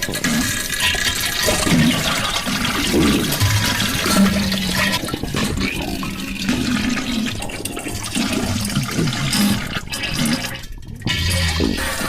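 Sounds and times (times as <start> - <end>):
toilet flushing: 0.0 - 12.0.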